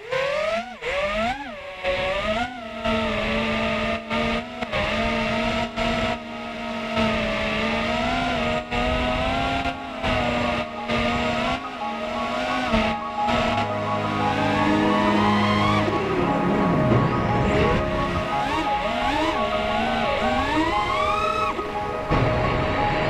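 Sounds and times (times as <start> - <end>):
drone motors and propellers whining: 0.0 - 23.0.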